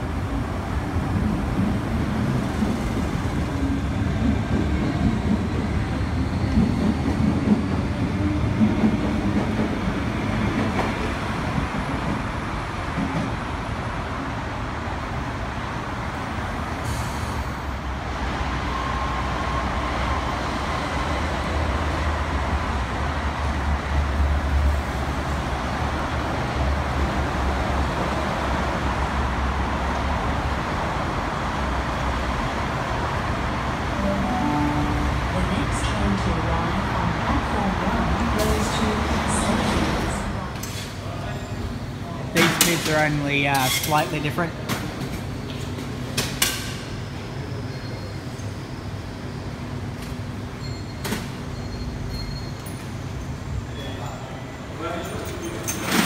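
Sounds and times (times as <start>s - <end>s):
rumble of trains and traffic: 0.0s - 56.0s.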